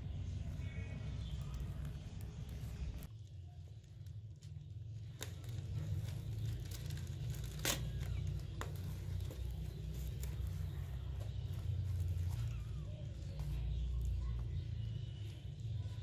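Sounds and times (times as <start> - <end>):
steady low hum: 0.0 - 16.0
bubble-wrap crinkling under paws: 1.2 - 16.0.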